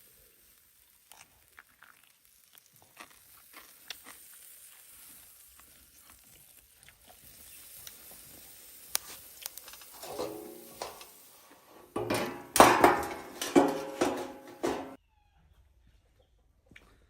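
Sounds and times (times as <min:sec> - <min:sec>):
steak sizzling over wood fire: 0:00.0 - 0:14.9
fire crackles and pops: 0:00.0 - 0:15.0.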